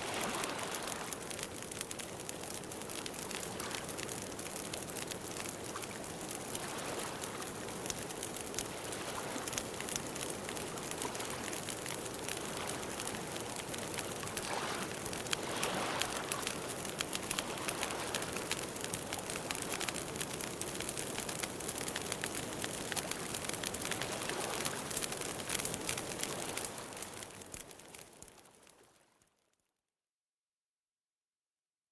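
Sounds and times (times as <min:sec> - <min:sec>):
campfire crackling: 0:00.0 - 0:28.9.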